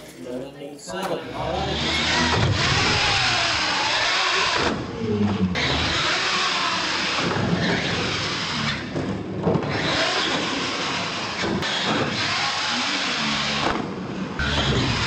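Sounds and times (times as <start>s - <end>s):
electric motor whining: 1.4s - 15.0s.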